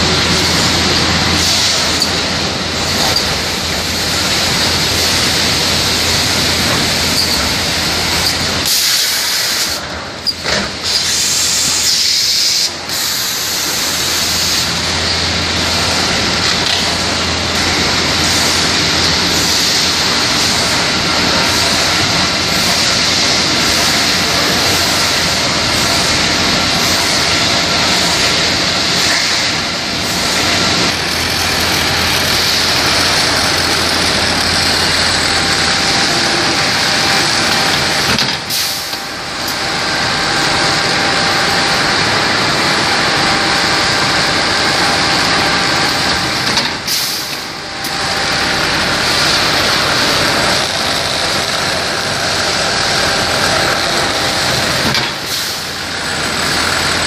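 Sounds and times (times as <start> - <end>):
machinery hissing and humming: 0.0 - 57.0.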